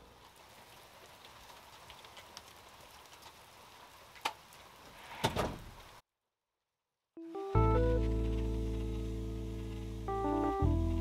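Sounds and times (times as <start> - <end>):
rain falling: 0.0 - 6.0, 7.3 - 11.0.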